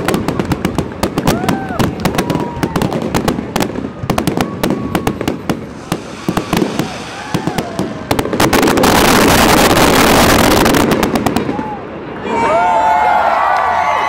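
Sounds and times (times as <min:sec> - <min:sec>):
crowd voices: 0:00.0 - 0:09.8, 0:10.9 - 0:14.0.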